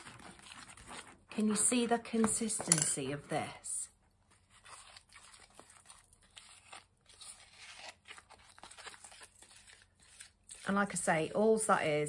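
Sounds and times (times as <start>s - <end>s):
stick stirring thick paste: 0.0s - 12.0s.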